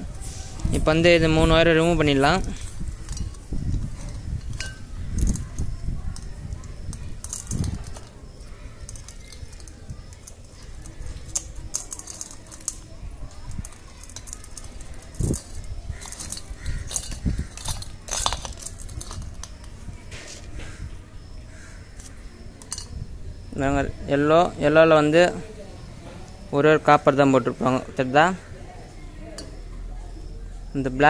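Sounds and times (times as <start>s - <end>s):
wires clicking and rustling: 0.0s - 25.4s
light metallic jingling: 0.1s - 20.1s, 21.9s - 28.4s.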